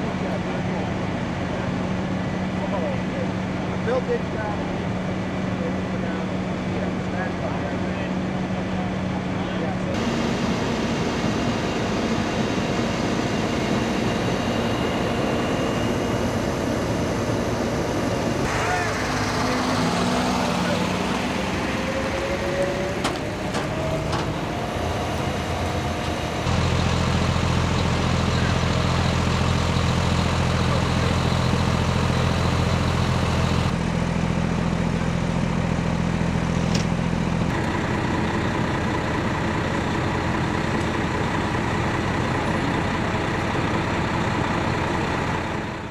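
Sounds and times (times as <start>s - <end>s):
truck engines humming: 0.0s - 45.9s.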